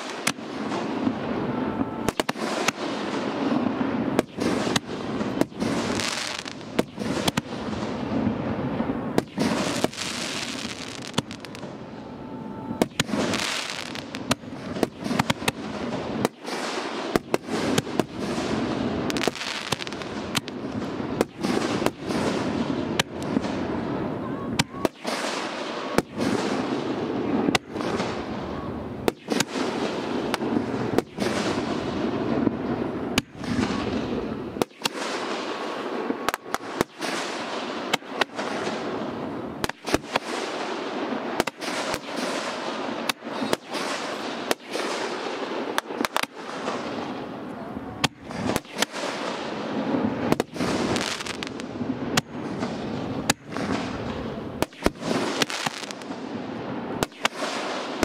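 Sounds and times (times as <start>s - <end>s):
fireworks bangs with hiss: 0.0s - 12.0s, 12.6s - 58.0s.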